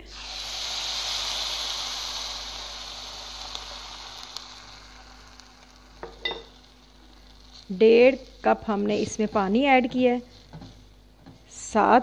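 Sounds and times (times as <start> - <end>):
water sizzling in hot oil: 0.0 - 12.0.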